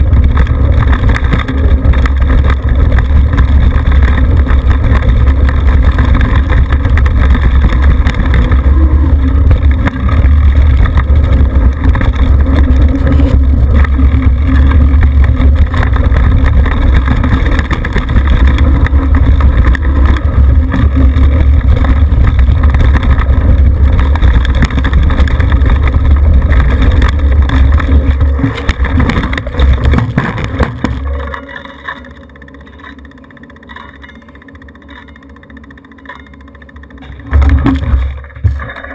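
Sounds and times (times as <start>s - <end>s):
tyre rumble on dirt trail: 0.0s - 31.6s, 37.0s - 38.9s.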